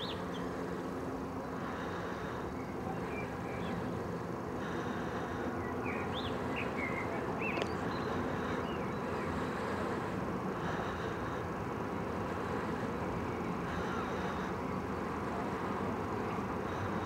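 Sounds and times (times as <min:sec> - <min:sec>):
low background rumble: 0:00.0 - 0:17.0
songbirds chirping: 0:00.0 - 0:17.0.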